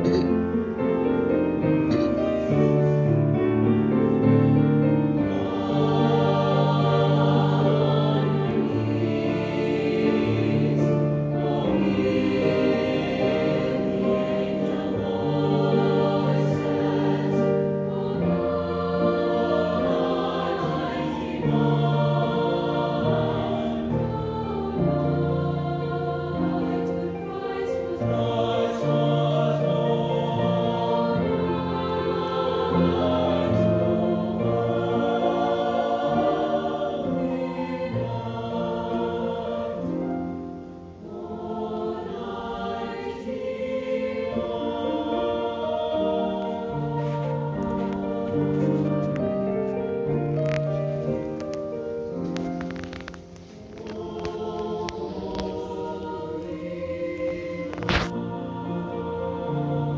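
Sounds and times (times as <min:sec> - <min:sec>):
girls' choir singing: 0:00.0 - 0:59.9.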